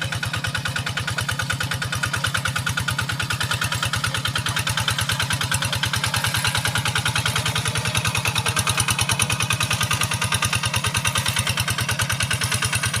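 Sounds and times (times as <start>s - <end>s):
single-cylinder diesel engine running: 0.0s - 13.0s.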